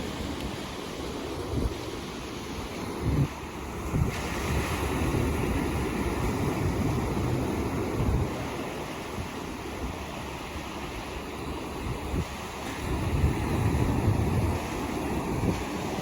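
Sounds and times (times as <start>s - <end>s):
ocean surf breaking on shore: 0.0s - 16.0s
wind buffeting microphone: 0.0s - 16.0s.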